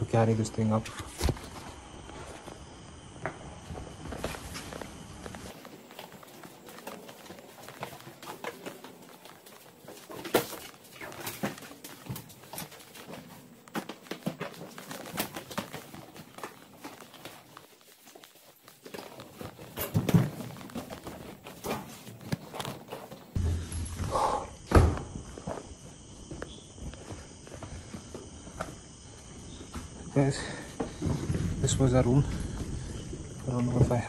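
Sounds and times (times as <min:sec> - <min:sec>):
footsteps on concrete stairs: 0:02.2 - 0:23.4, 0:24.7 - 0:32.7.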